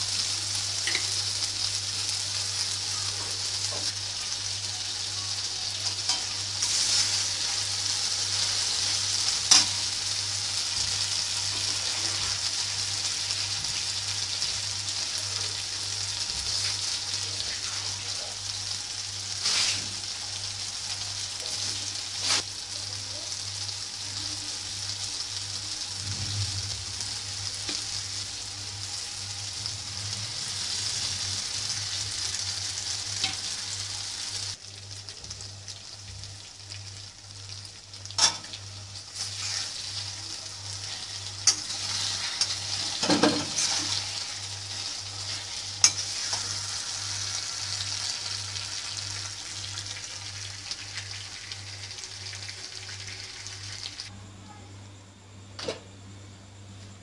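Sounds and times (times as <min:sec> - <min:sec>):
vegetables sizzling in a pan: 0:00.0 - 0:54.1.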